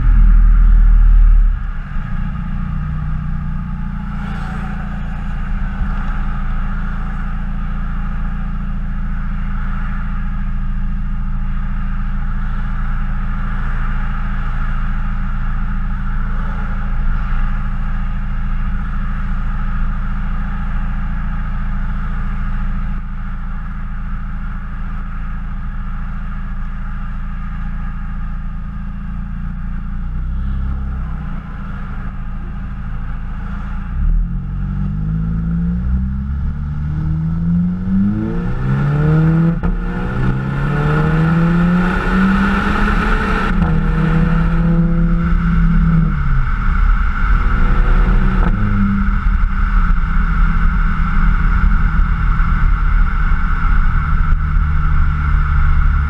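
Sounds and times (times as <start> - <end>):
car engine exhaust: 0.0 - 56.0.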